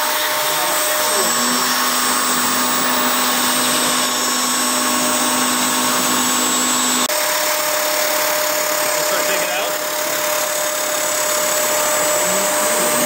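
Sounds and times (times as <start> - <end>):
bit cutting plastic: 0.0 - 13.0
router spindle motor whining: 0.0 - 13.0.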